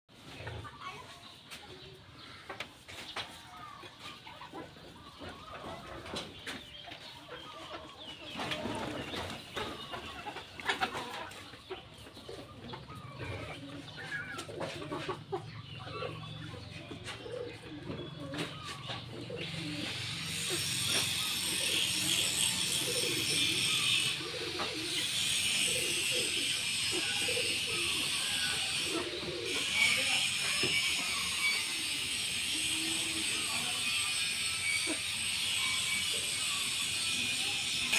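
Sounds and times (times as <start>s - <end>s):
chickens clucking: 0.1s - 37.9s
bird cooing: 7.4s - 37.9s.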